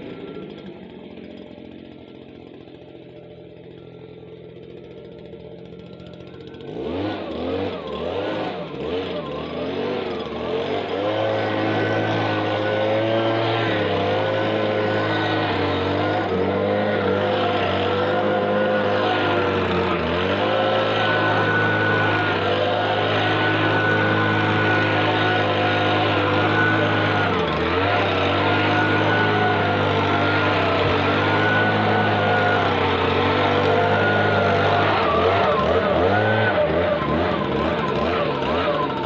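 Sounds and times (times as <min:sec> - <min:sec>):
leaf blower engine running: 0:00.0 - 0:39.0.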